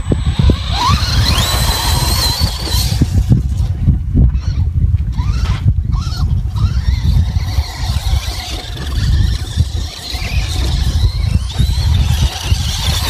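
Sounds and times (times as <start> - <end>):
electric rc truck motors whining: 0.0 - 13.0
wind rumble on microphone: 0.0 - 13.0.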